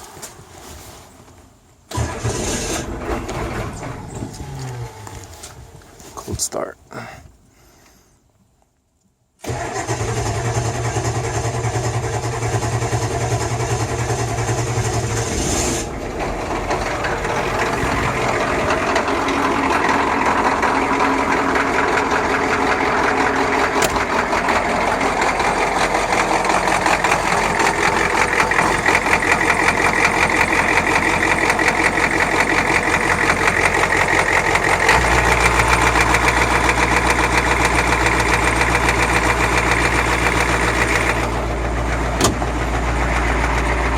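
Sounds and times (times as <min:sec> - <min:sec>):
diesel engine clatter: 0:01.9 - 0:05.8, 0:09.4 - 0:43.9.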